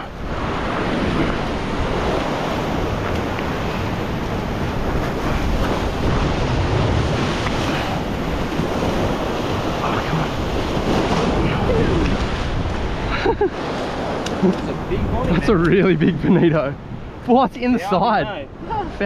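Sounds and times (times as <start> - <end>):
ocean surf against rocks: 0.0 - 19.0
wind buffeting microphone: 0.0 - 19.0.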